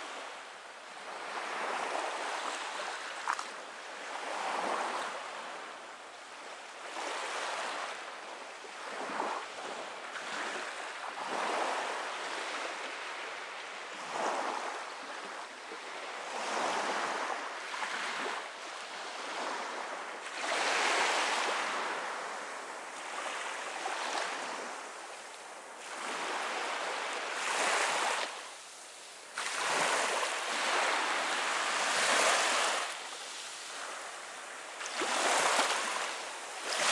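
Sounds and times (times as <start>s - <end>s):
small waves washing on beach: 0.0s - 36.9s.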